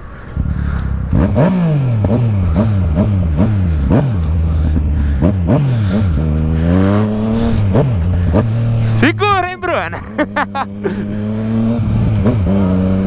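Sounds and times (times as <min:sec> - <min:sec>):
motorcycle engine revving: 0:00.4 - 0:09.3, 0:09.9 - 0:13.0.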